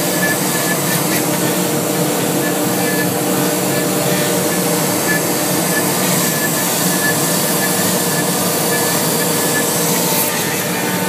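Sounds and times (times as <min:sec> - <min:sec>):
cnc router carving foam: 0:00.0 - 0:11.0.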